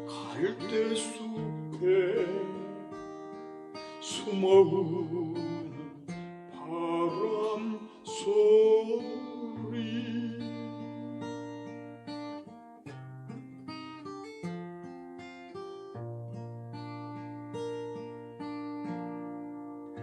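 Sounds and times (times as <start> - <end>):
acoustic guitar plucking: 0.0 - 20.0.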